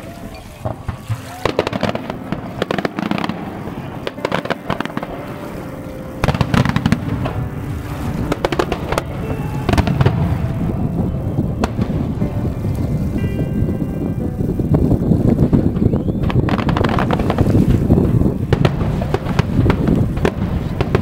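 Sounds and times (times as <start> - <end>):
fireworks bursting with bangs: 0.0 - 21.0.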